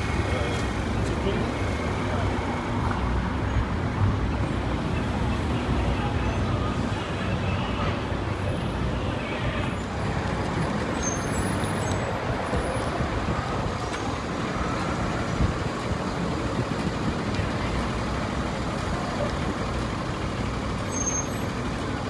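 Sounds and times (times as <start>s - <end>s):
traffic passing with road hiss: 0.0s - 22.0s.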